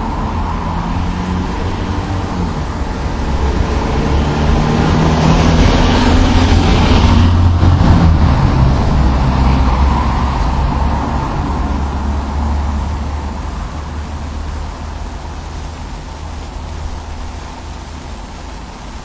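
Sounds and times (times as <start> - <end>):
road vehicle passing by: 0.0 - 19.0.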